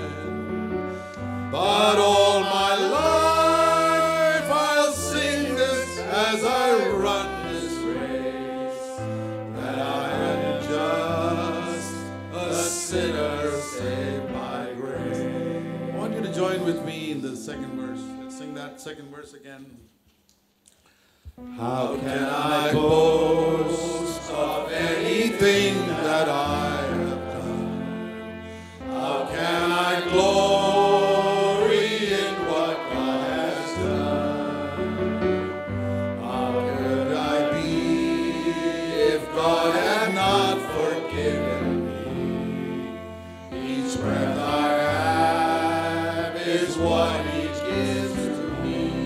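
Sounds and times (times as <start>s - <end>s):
men singing gospel song: 0.0s - 17.0s, 21.5s - 35.3s, 36.1s - 49.0s
instrumental accompaniment: 0.0s - 49.0s.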